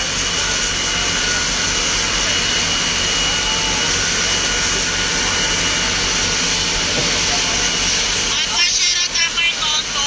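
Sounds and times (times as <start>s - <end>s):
pump engine drone: 0.0s - 10.0s.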